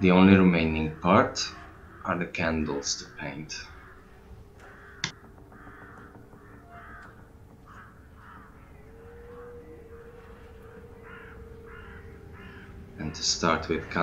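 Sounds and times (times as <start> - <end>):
low steady hum: 0.0 - 14.0
crows cawing: 0.4 - 14.0.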